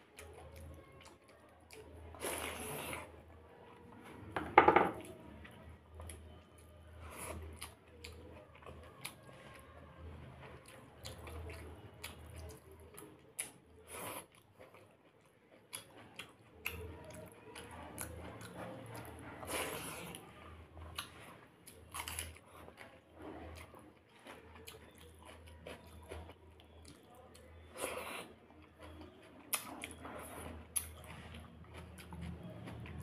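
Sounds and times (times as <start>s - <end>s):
wet chewing and crunching: 0.0s - 4.0s, 5.0s - 33.0s.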